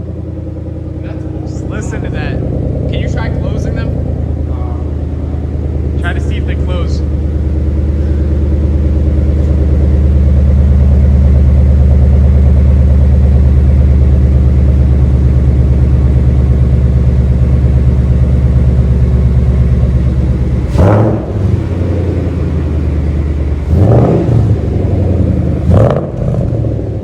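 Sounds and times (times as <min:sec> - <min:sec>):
loud car engine idling: 0:00.0 - 0:27.0.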